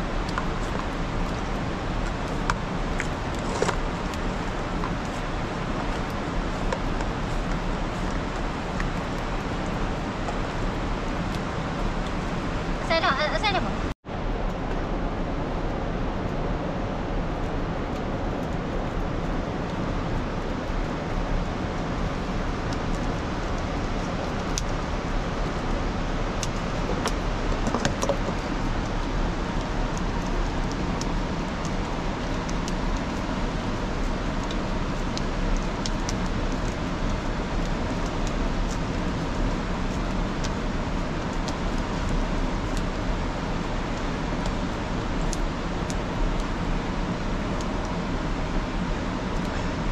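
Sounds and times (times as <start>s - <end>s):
steady rushing noise: 0.0s - 49.9s.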